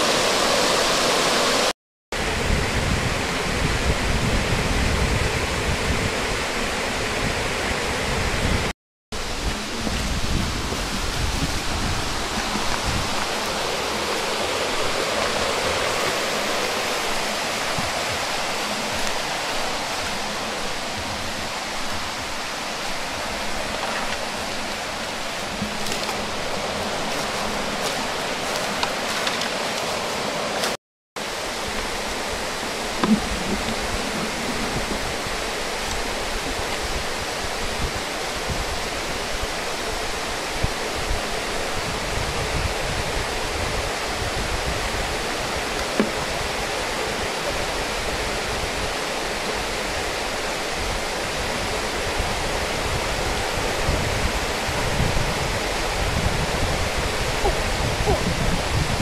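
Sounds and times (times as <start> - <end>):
rushing outdoor noise: 0.0 - 59.0.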